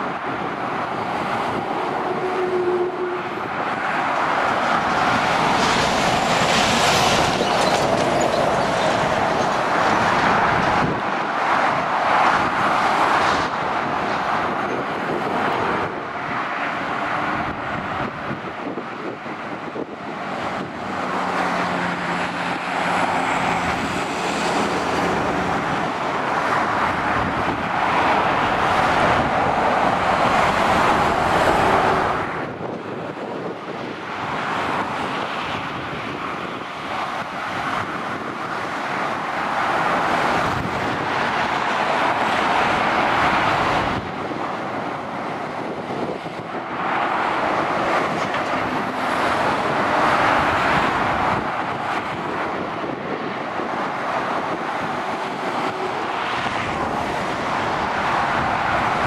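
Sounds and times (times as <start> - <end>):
vehicles passing on a road: 0.0 - 59.0.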